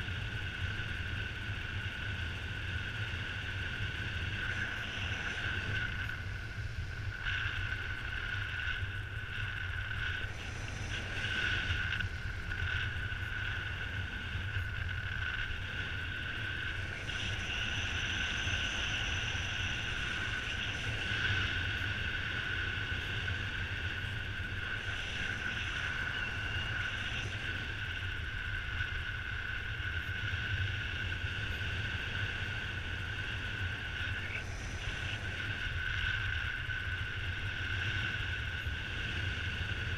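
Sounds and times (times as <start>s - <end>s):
airflow rumble over microphone: 0.0s - 39.9s.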